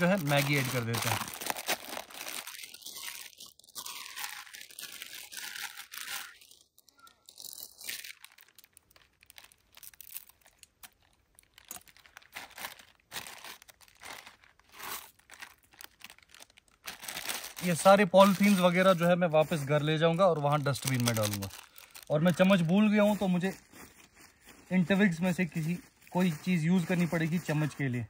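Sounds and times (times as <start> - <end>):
dry noodles crunching: 0.0 - 24.5
plastic wrapper crinkling and tearing: 0.0 - 28.0.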